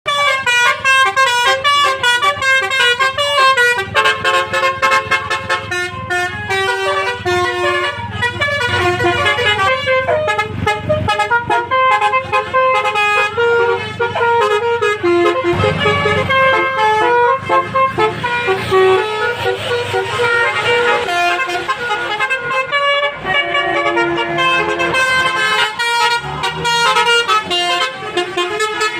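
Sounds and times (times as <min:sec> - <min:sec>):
musical bus horns: 0:00.0 - 0:28.9
bus engines running: 0:00.1 - 0:28.9.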